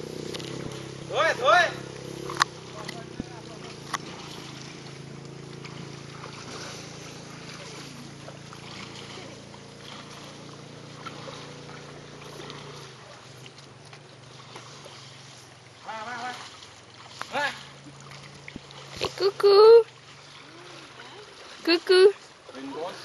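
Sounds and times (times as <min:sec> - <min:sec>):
steady low hum: 0:00.0 - 0:21.7
water sloshing and splashing: 0:00.0 - 0:23.0.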